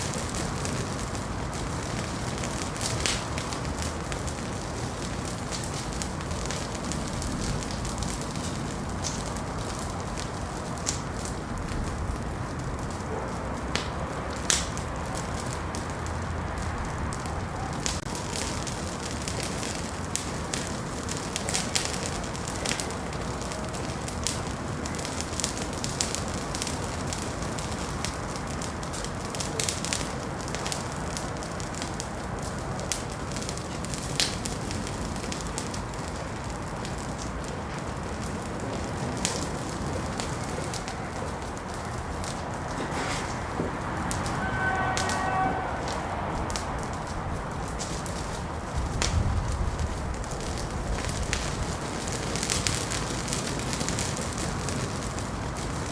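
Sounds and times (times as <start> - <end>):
fire crackling and popping: 0.0 - 55.9
wood fire burning: 0.0 - 55.9.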